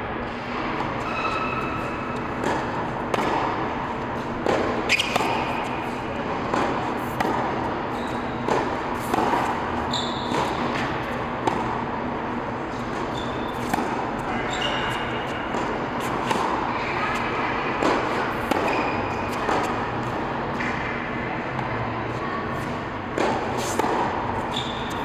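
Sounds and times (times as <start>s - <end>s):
tennis ball bouncing on court: 0.2s - 25.0s
tennis ball struck with racquets: 0.2s - 25.0s.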